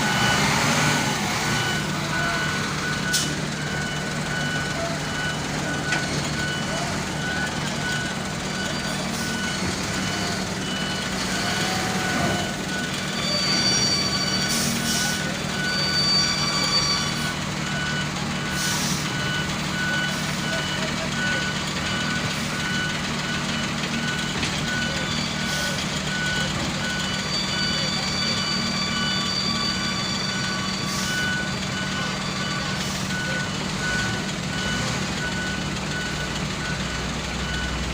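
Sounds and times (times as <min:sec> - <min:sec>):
heavy diesel machinery running: 0:00.0 - 0:37.9
backup alarm beeping: 0:00.1 - 0:37.8.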